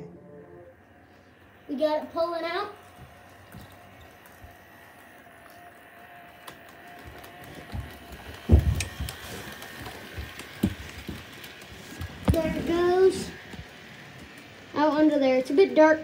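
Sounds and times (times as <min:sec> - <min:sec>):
model train motor whine: 0:00.7 - 0:16.0
model train clicking on track: 0:01.4 - 0:16.0.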